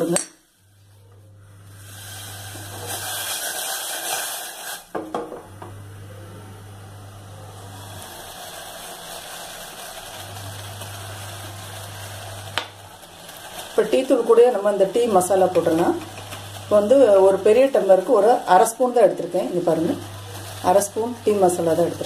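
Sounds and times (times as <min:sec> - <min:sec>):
water hissing and bubbling in saucepan: 0:00.0 - 0:22.0.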